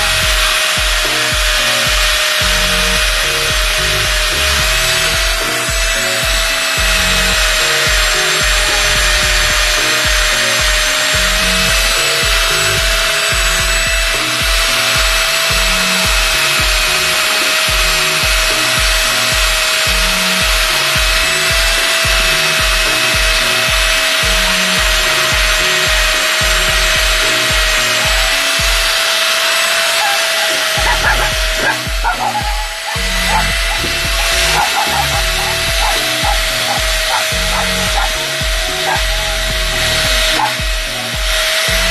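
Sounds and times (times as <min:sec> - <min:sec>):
angle grinder buffing metal: 0:00.0 - 0:41.9.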